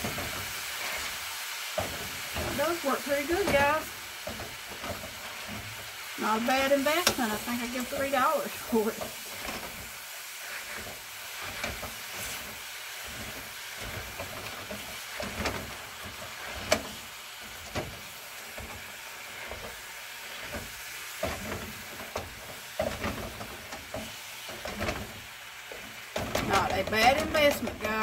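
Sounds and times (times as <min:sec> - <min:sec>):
meat chopper scraping a pan: 0:00.0 - 0:28.0
meat sizzling in a skillet: 0:00.0 - 0:28.0.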